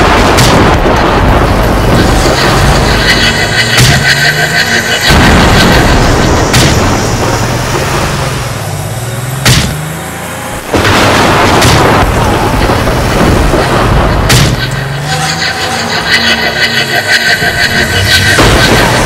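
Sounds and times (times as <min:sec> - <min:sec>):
sharp booms: 0:00.0 - 0:10.0, 0:10.6 - 0:15.3, 0:18.2 - 0:19.0
cartoon engine rumble: 0:01.1 - 0:19.0.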